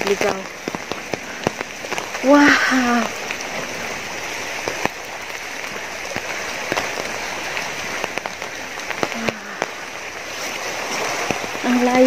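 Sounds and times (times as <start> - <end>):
raindrops tapping on umbrella: 0.0 - 12.0
steady rain: 0.0 - 12.0.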